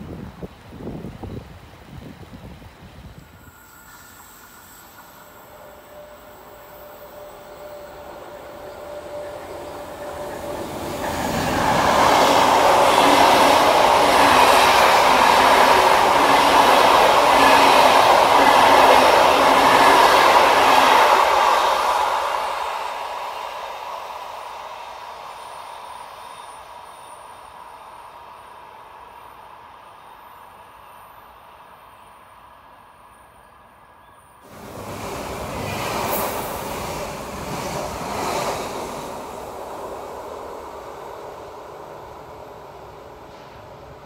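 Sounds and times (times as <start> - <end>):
train passing on rails: 0.0 - 44.0.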